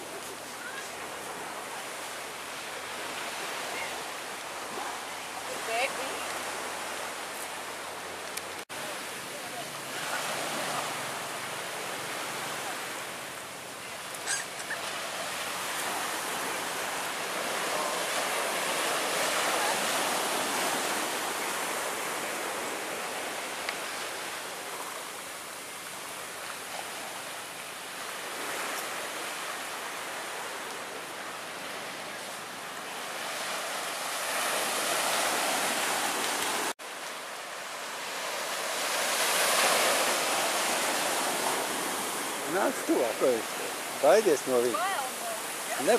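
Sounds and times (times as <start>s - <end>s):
waves washing on beach: 0.0s - 45.9s.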